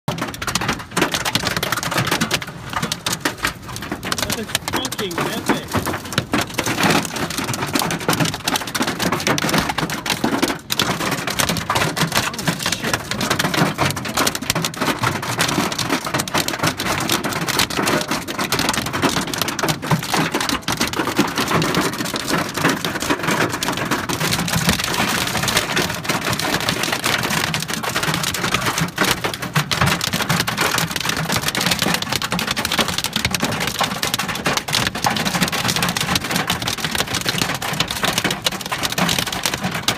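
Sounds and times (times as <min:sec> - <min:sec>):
hail and rain on car roof: 0:00.1 - 0:39.9.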